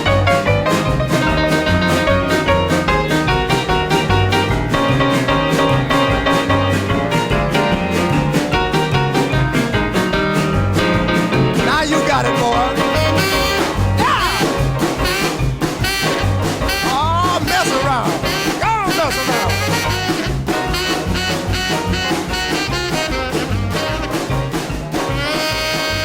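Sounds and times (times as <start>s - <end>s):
swing rhythm and blues music: 0.0s - 26.0s.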